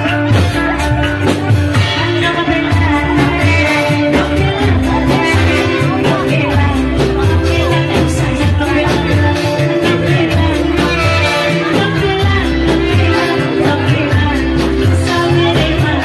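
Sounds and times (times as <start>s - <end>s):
band music with steady beat: 0.0s - 16.0s
woman singing into microphone: 0.0s - 16.0s.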